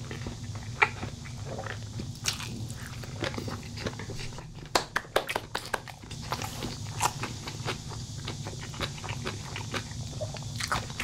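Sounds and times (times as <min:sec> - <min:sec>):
person chewing and crunching food: 0:00.0 - 0:11.0.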